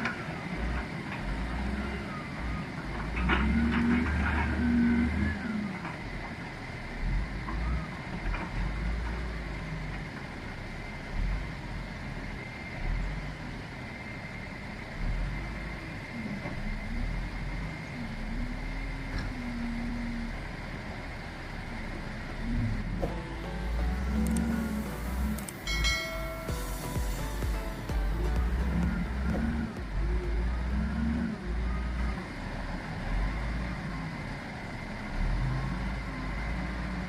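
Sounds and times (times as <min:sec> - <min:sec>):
heavy diesel engine revving: 0:00.0 - 0:37.0.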